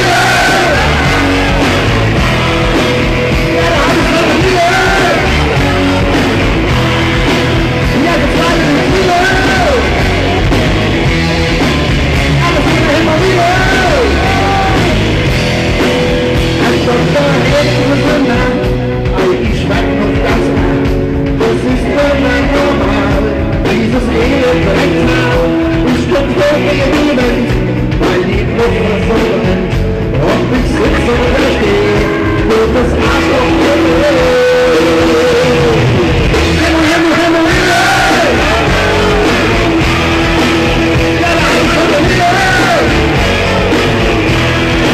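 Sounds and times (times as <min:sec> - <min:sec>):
lead singer singing: 0:00.0 - 0:44.9
live rock band playing: 0:00.0 - 0:44.9.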